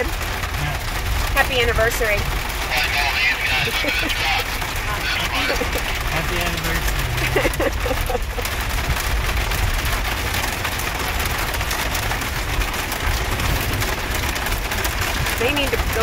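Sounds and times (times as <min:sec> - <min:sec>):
car driving rumble: 0:00.0 - 0:16.0
rain on car roof: 0:00.0 - 0:16.0.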